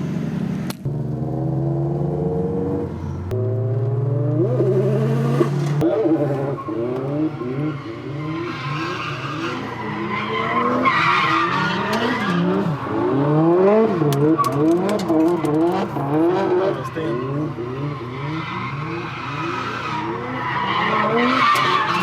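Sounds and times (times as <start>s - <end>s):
car engine revving and shifting: 0.0s - 22.0s.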